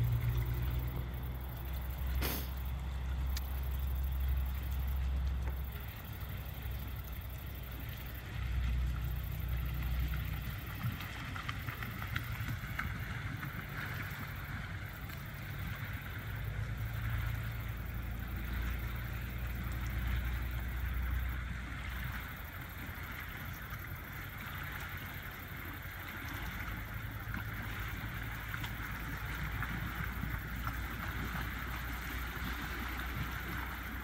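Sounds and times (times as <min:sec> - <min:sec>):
low rumble: 0:00.0 - 0:34.0
water churning and splashing: 0:00.0 - 0:34.0.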